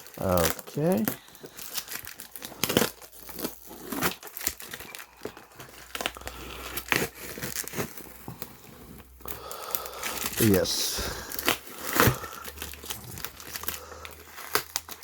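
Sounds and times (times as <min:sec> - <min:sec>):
cardboard box being torn open: 0:00.0 - 0:15.0.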